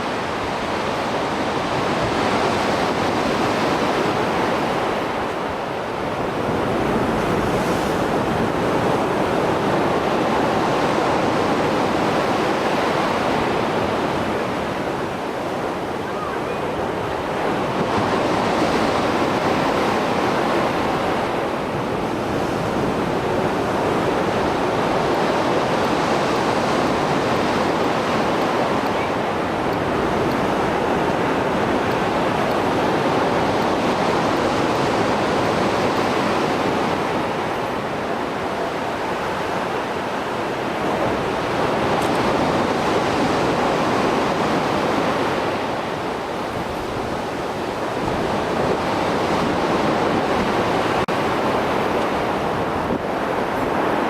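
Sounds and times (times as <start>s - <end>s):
sea waves breaking on shore: 0.0s - 54.0s
wind on microphone: 0.0s - 54.0s.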